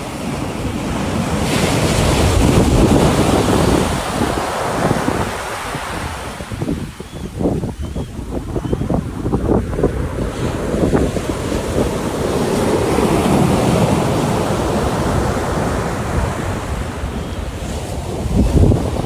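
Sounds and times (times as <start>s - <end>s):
sea waves breaking on a beach: 0.0s - 19.0s
wind rumbling on microphone: 0.0s - 19.0s.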